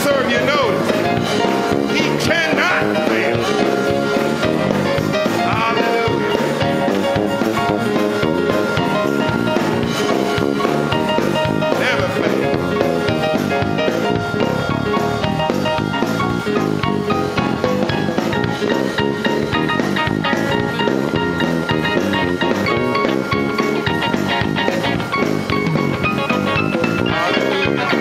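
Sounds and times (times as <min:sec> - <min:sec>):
drum kit: 0:00.0 - 0:28.0
gospel choir and band: 0:00.0 - 0:28.0.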